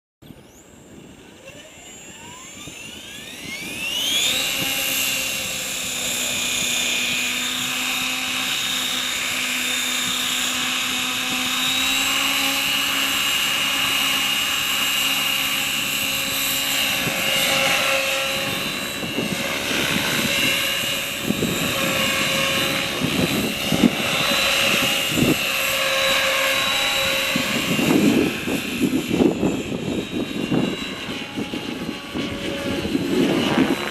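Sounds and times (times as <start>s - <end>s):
electric helicopter motor whine: 0.2s - 33.9s
wind rumble on microphone: 0.2s - 33.9s.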